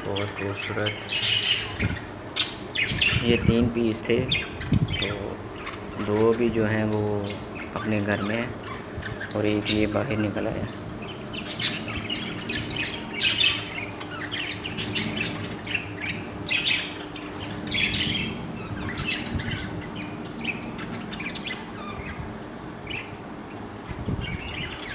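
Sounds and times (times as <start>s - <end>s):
faint low hum: 0.0s - 24.9s
parrots chirping and chattering: 0.0s - 24.9s.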